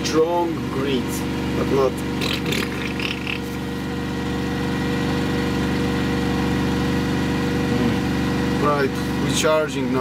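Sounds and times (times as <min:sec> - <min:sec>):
petrol generator engine running: 0:00.0 - 0:10.0.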